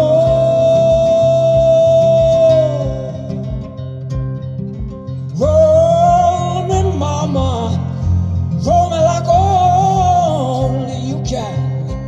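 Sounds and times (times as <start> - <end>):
person singing: 0.0 - 3.9, 5.2 - 12.0
bass: 0.0 - 12.0
strummed acoustic guitar: 0.0 - 12.0.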